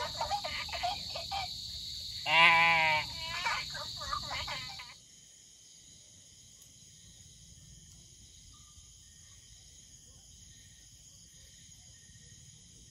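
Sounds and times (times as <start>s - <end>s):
night insects trilling: 0.0s - 12.9s.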